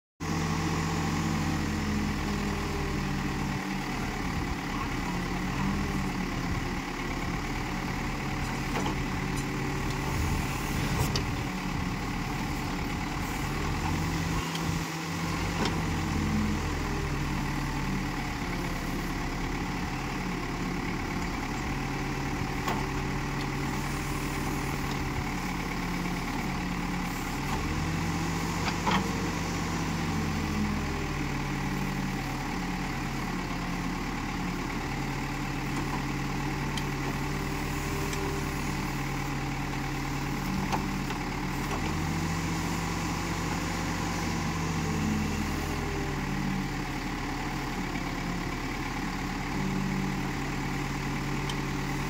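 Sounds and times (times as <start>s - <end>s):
diesel engine running: 0.2s - 52.0s.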